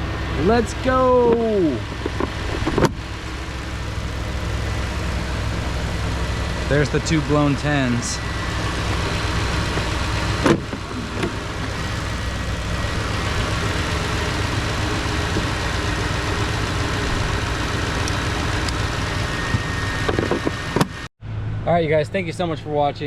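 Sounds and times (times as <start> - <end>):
engine idling: 0.0 - 21.1.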